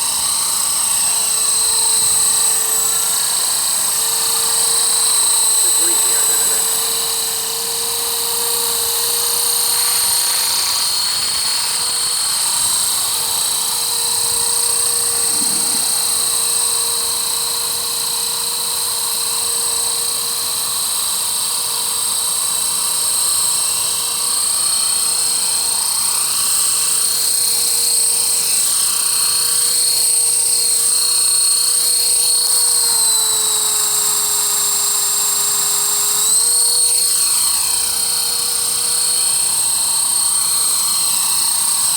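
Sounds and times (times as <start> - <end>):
rc helicopter whine: 0.0 - 41.9.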